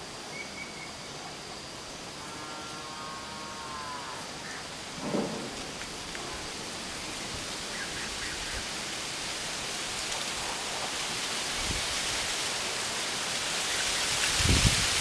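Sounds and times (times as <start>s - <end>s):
wind rushing through trees: 0.0s - 15.0s.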